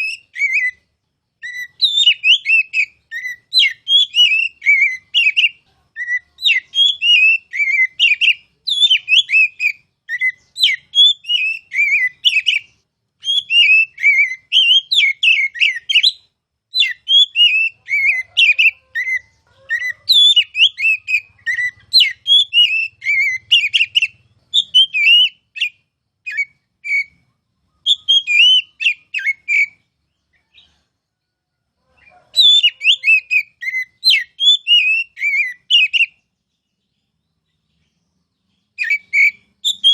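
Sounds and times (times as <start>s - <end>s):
bird singing whistled phrases: 0.0s - 29.8s, 32.0s - 36.3s, 38.7s - 39.9s.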